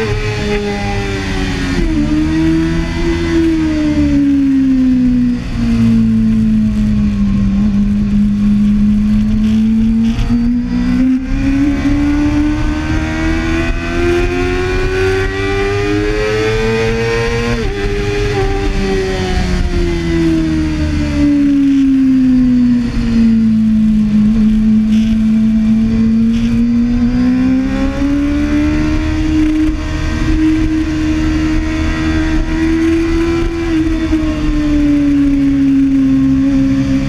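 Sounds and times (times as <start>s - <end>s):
motorcycle engine revving: 0.0s - 37.0s
wind noise: 0.0s - 37.0s.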